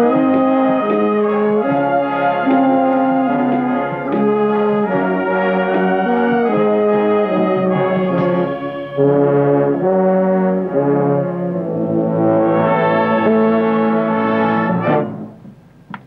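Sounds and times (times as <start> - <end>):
brass: 0.0 - 15.5
wind band playing chords: 0.0 - 15.5.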